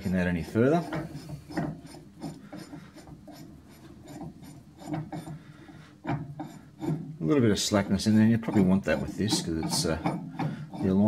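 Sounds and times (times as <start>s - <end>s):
metal threads scraping: 0.0s - 11.0s.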